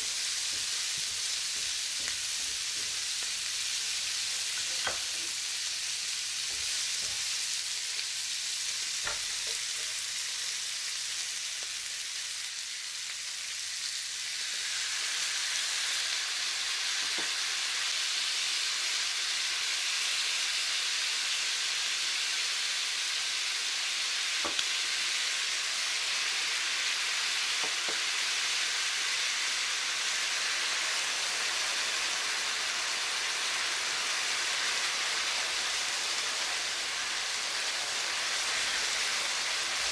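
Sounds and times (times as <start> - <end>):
noodles sizzling in a frying pan: 0.0 - 39.9.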